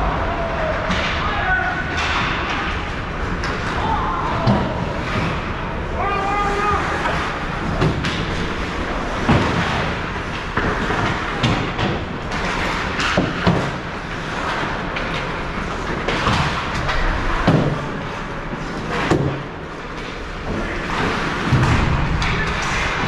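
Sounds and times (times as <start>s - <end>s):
skates scraping ice: 0.6s - 23.0s.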